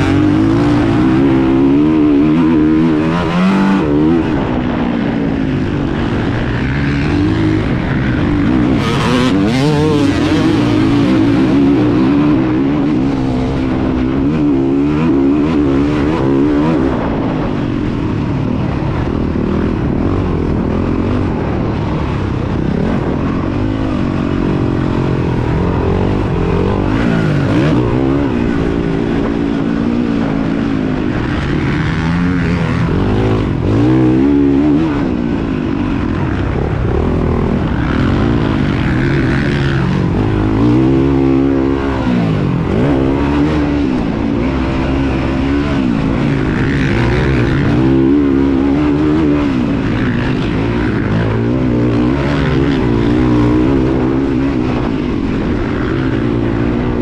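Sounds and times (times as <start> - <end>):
motocross bike engines racing: 0.0 - 57.0.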